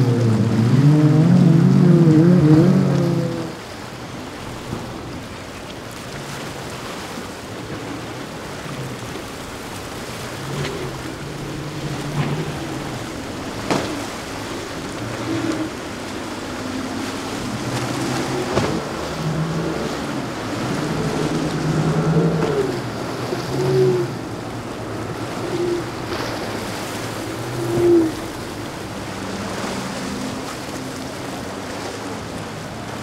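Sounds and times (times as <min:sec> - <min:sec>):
hull slapping waves: 0:00.0 - 0:33.0
outboard engines humming: 0:00.0 - 0:33.0.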